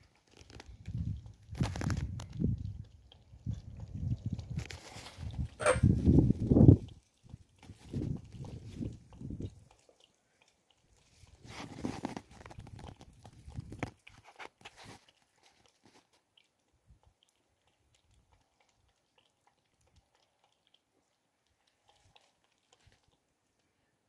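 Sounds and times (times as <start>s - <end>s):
cat lapping water: 0.0s - 23.8s.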